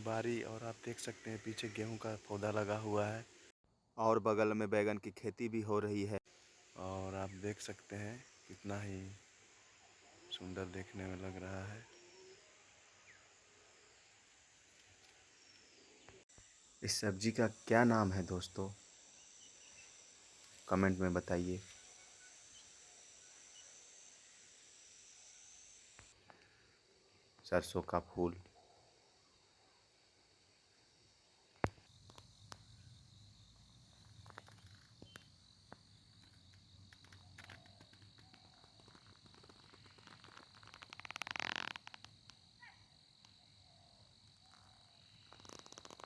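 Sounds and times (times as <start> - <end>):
crickets chirring: 0.0 - 3.5, 6.3 - 28.4, 29.0 - 46.0.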